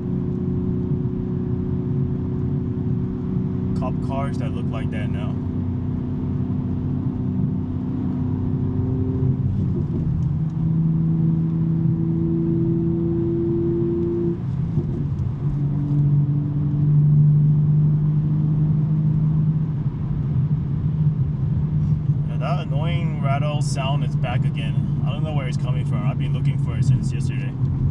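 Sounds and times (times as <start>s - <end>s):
car engine droning from inside cabin: 0.0s - 27.9s.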